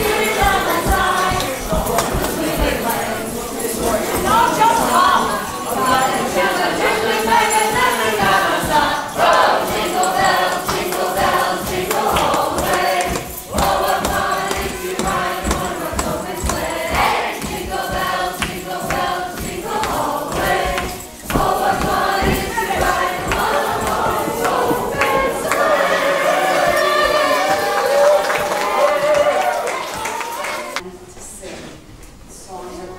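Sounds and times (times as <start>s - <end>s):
group singing a carol: 0.0s - 29.7s.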